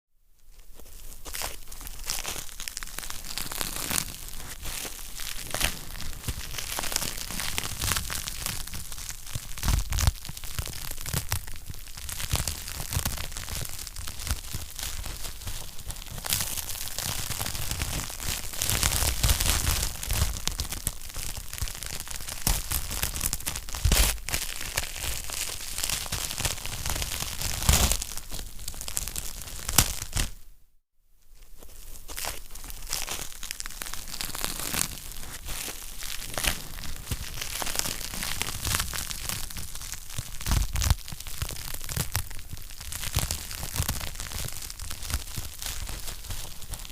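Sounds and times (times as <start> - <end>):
wood fire crackling: 1.0 - 30.3, 32.9 - 46.9.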